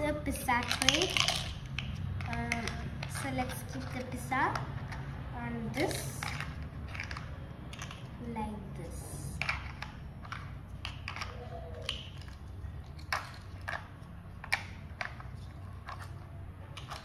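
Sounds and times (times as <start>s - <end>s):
plastic toy pieces clicking: 0.5s - 5.0s, 5.9s - 8.1s, 9.3s - 17.0s.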